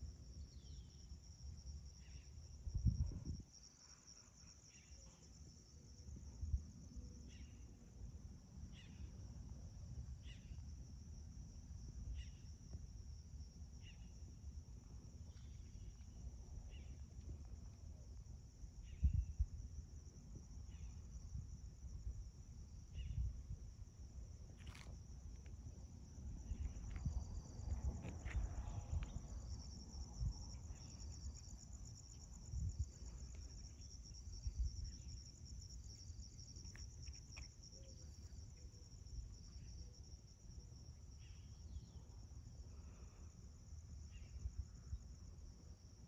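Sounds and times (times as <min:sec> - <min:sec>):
crickets chirring: 0:00.0 - 0:46.0.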